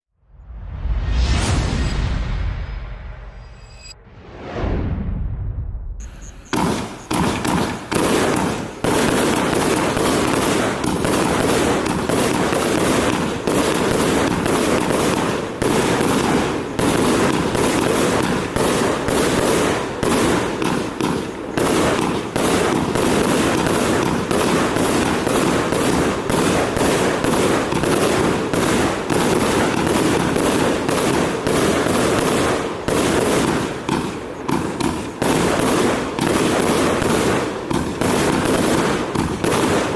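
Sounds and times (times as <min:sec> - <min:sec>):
firework pops and crackling: 0:06.0 - 0:39.9.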